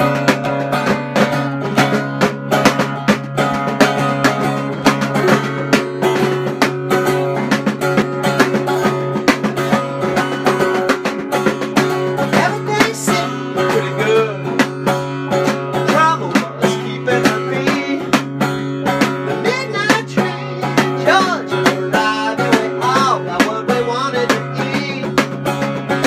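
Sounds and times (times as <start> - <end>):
plucked buzzing strings: 0.0 - 26.0.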